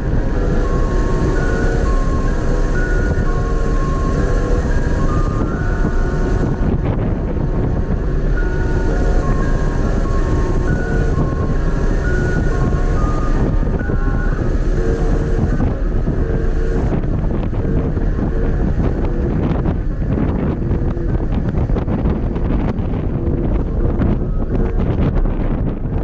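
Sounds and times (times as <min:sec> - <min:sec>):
moving vehicle rumble: 0:00.0 - 0:26.0
wind buffeting microphone: 0:00.0 - 0:26.0.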